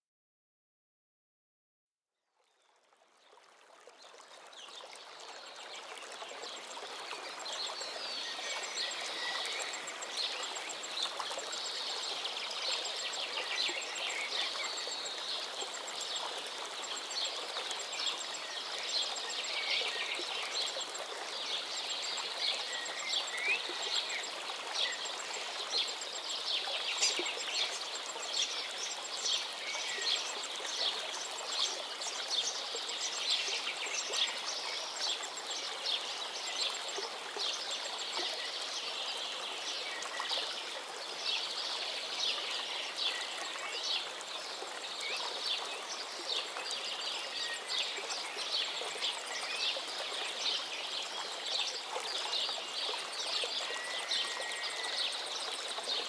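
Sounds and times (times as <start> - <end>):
stream running over rocks: 2.3 - 56.0.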